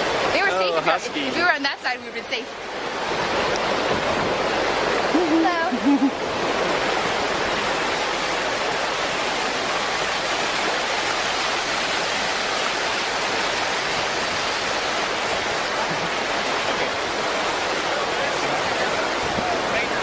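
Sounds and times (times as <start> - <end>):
flood water rushing: 0.0 - 20.0.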